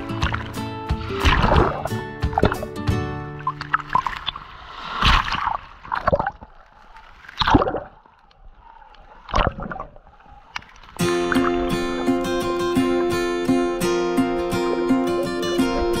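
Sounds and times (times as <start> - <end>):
seawater splashing and sloshing: 0.0 - 16.0.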